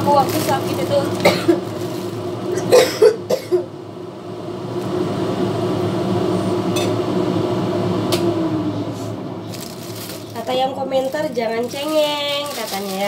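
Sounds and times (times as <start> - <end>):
appliance electric motor hum: 0.0 - 13.0.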